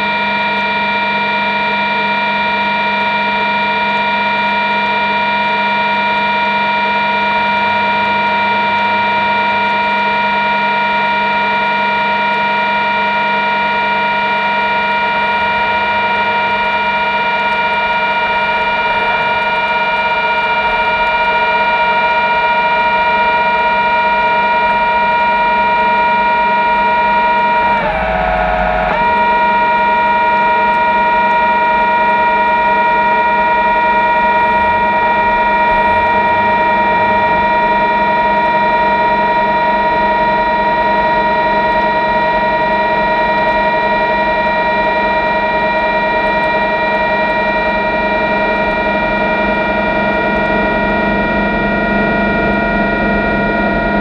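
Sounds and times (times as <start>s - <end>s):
machine whining: 0.0s - 54.0s.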